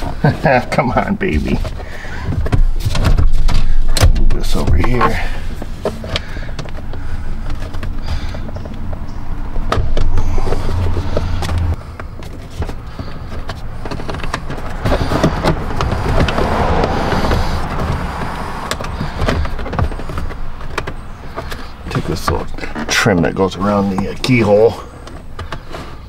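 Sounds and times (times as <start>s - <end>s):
plastic covers clicking and rubbing: 0.0s - 26.0s.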